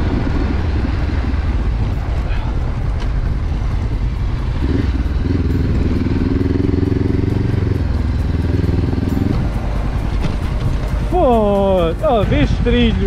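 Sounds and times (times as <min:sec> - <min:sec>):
constant low rumble: 0:00.0 - 0:13.0
motorcycle engine revving: 0:00.0 - 0:13.0.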